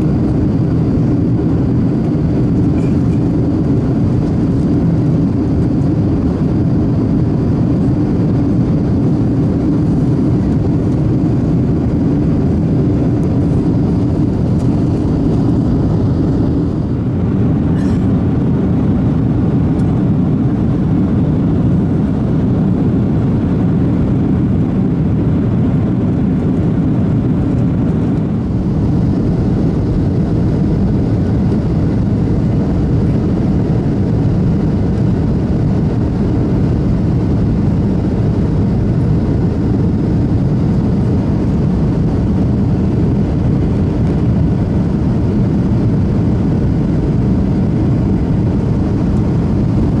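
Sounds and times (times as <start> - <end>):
jet engines roaring: 0.0 - 50.0
rushing air: 0.0 - 50.0.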